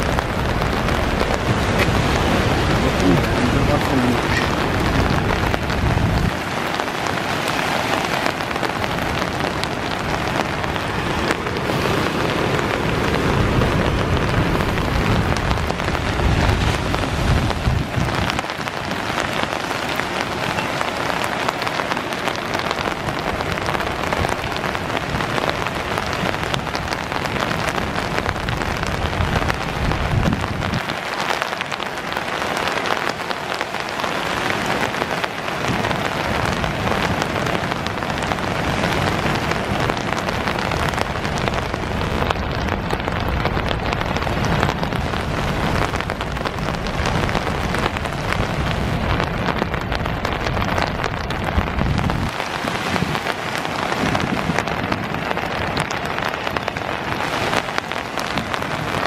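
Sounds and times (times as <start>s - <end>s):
floodwater rushing through spillway: 0.0s - 59.0s
heavy rain hissing: 0.0s - 59.0s.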